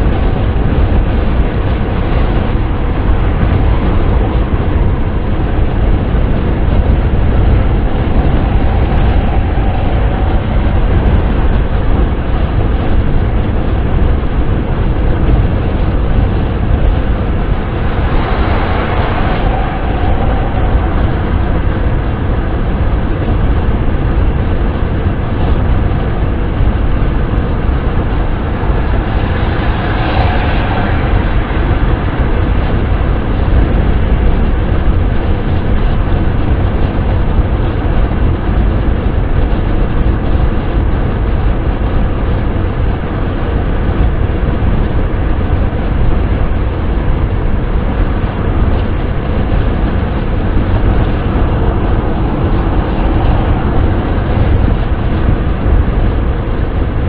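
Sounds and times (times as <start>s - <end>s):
car wind and road noise: 0.0s - 57.0s.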